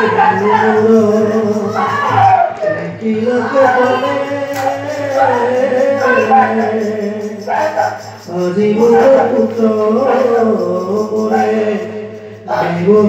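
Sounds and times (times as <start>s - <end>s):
person singing a wavering chant: 0.0s - 13.0s.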